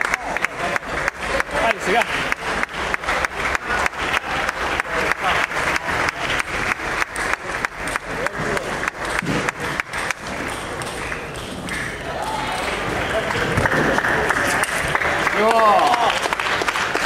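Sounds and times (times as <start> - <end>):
spectators clapping in rhythm: 0.0 - 17.0.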